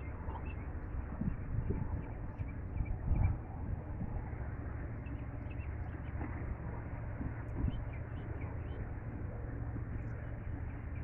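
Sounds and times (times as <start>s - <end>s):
wind buffeting microphone: 0.0s - 5.1s, 5.8s - 11.0s.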